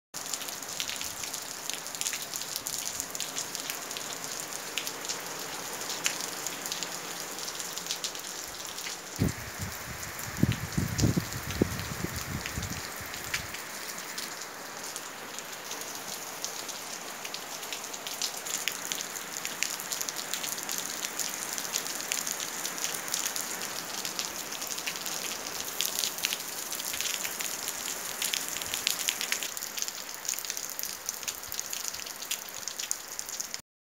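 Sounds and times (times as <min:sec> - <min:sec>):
heavy rain on paving and trees: 0:00.2 - 0:33.6.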